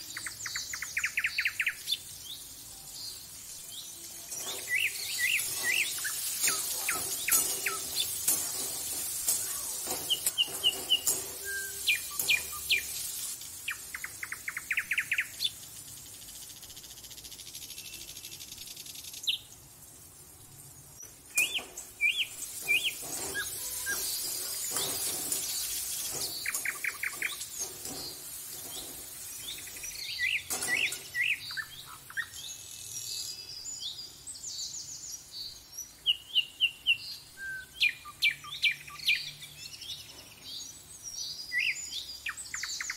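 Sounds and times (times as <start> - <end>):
small birds chirping and trilling: 0.0 - 42.9
steady high hiss: 0.0 - 42.9.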